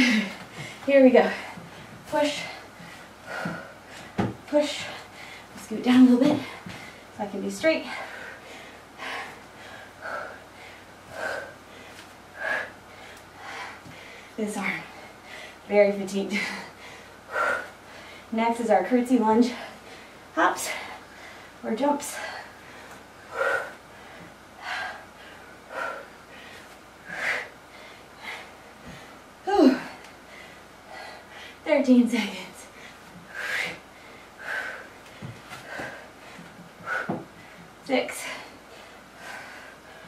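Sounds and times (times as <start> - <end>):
woman breathing hard: 0.0 - 5.6, 7.8 - 15.7, 16.3 - 18.4, 19.4 - 31.7, 32.3 - 40.0.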